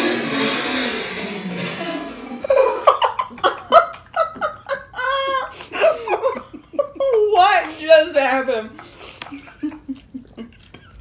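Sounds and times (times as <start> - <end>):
people laughing: 1.8 - 11.0.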